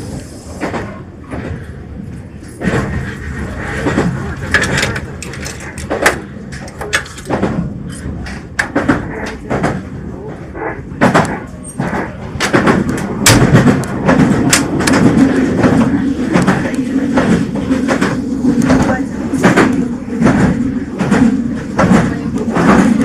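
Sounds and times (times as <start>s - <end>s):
train rumble inside car: 0.0s - 23.0s
wheels clacking over rail joints: 2.4s - 9.9s, 11.0s - 23.0s.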